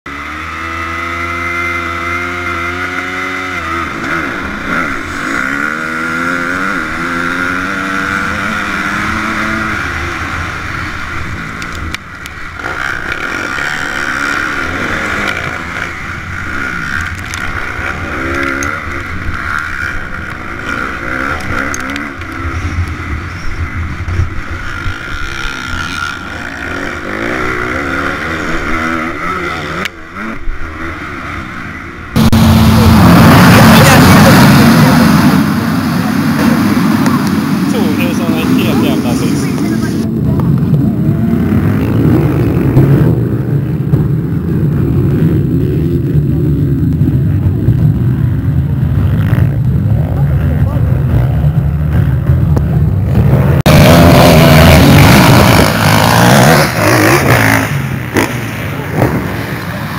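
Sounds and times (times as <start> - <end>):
motorbike accelerating through gears: 0.1 - 59.9
motorbike engines revving: 0.1 - 59.9.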